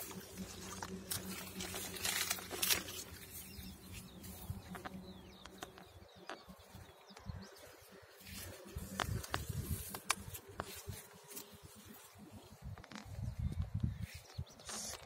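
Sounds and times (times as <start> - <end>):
leaves rustling against phone: 0.0 - 6.4, 7.6 - 15.0.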